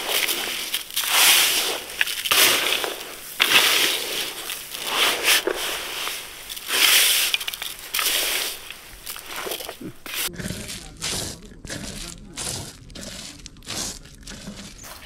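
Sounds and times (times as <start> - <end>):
hands kneading cheese curd: 0.0 - 15.0.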